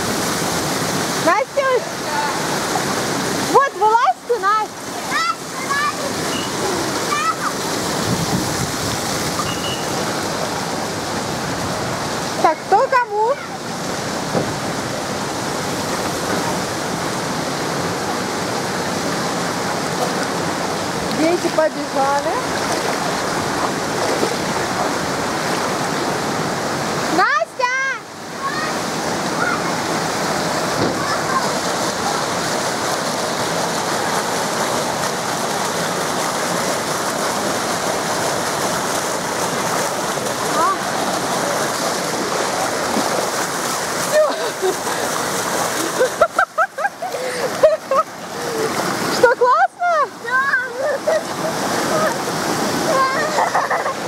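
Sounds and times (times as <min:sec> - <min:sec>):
falling and splashing water: 0:00.0 - 0:54.0.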